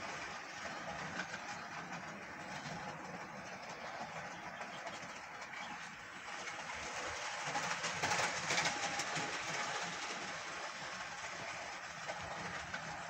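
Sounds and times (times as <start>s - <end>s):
wheels clicking on rails: 0.0s - 13.0s.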